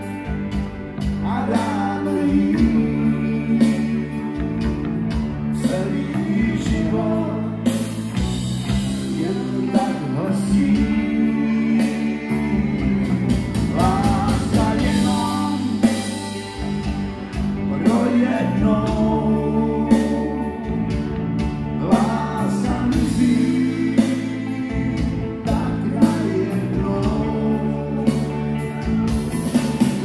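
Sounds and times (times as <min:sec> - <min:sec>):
drum kit: 0:00.0 - 0:30.0
electric bass: 0:00.0 - 0:30.0
electric guitar: 0:00.0 - 0:30.0
man singing: 0:01.0 - 0:04.8, 0:05.4 - 0:07.9, 0:08.9 - 0:16.9, 0:17.6 - 0:28.8.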